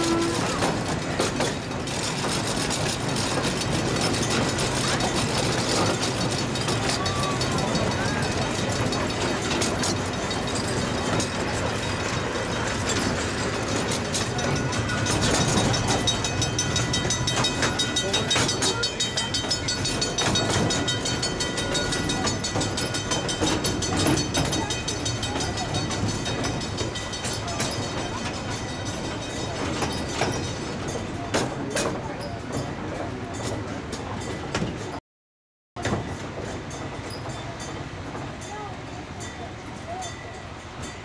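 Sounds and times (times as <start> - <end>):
train cars rumbling on rails: 0.0 - 35.0, 35.8 - 41.0
wheels clicking over track: 0.0 - 35.0.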